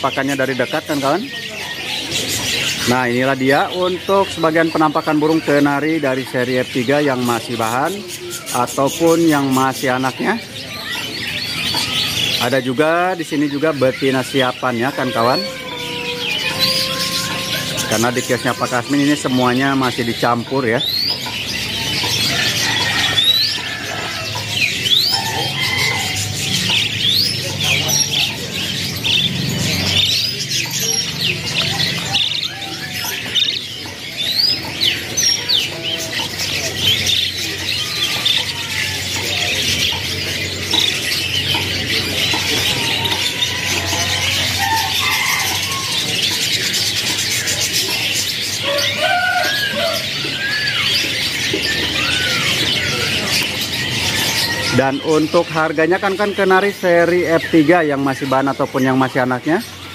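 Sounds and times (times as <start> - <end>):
canaries chirping: 0.0 - 59.9
low curving bird calls: 0.0 - 59.9.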